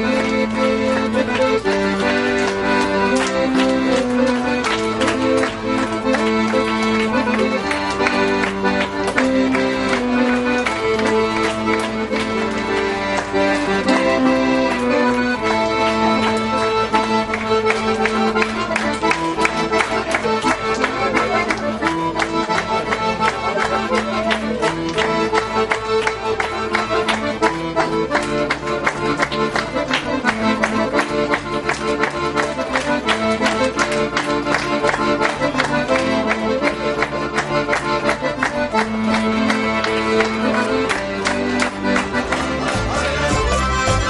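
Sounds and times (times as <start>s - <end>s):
accordion dance music: 0.0s - 44.0s.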